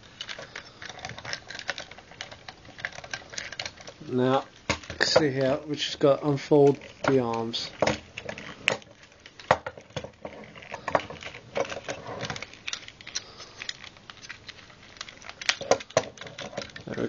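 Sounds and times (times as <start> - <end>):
plastic and metal toy parts clicking: 0.0 - 17.0.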